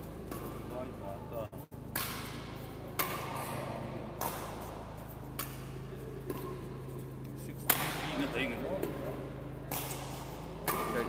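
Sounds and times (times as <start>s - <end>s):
rackets hitting shuttlecock: 0.0s - 0.8s, 1.7s - 11.0s
steady low hum: 0.0s - 11.0s.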